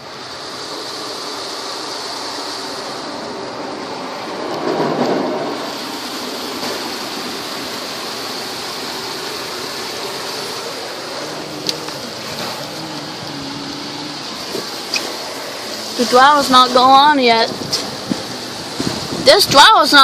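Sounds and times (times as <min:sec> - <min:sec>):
car wash water jets spraying: 0:00.0 - 0:20.0.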